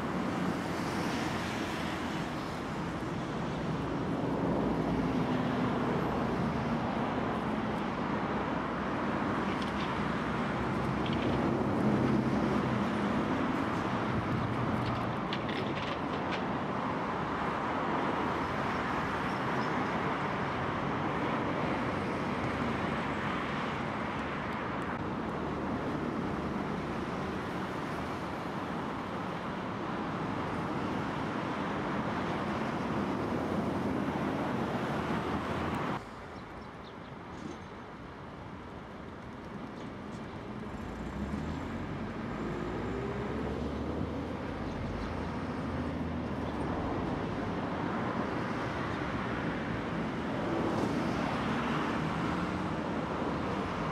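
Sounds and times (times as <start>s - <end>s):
distant road traffic rumble: 0.0s - 53.9s.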